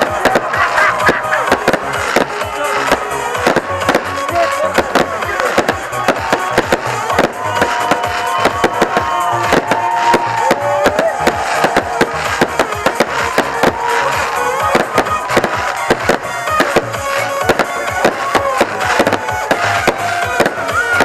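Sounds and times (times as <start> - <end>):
fireworks banging and crackling: 0.0 - 21.0
music playing: 0.0 - 21.0.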